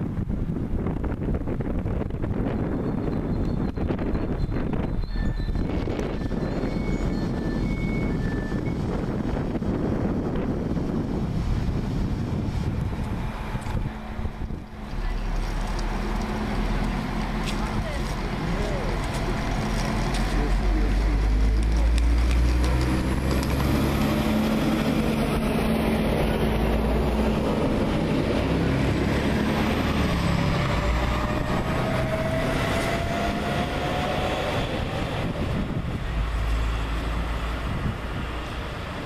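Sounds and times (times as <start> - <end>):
diesel railcar engine rumbling: 0.0 - 39.0.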